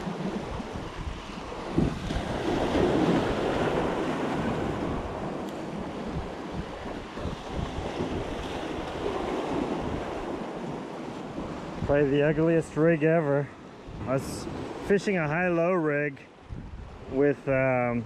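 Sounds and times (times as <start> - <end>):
wind buffeting microphone: 0.0 - 15.0, 16.4 - 18.0
surf breaking over rocks: 0.0 - 16.0.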